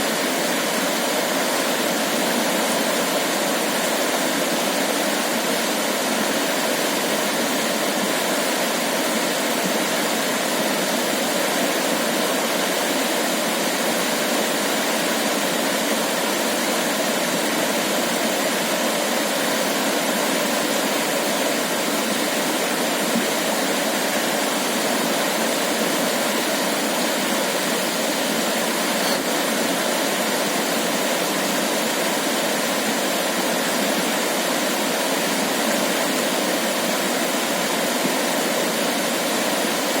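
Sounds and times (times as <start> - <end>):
river water flowing over pebbles: 0.0 - 40.0.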